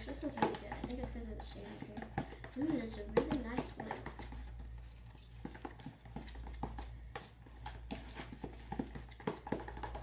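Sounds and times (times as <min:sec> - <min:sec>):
low steady hum: 0:00.0 - 0:10.0
utensil stirring slime: 0:00.0 - 0:10.0.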